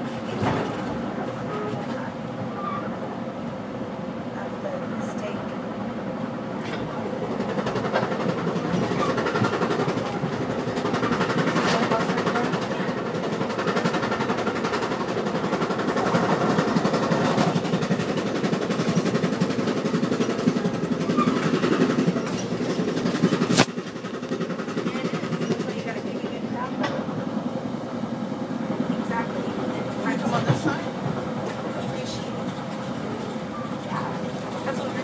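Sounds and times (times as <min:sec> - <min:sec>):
train running noise inside car: 0:00.0 - 0:35.0.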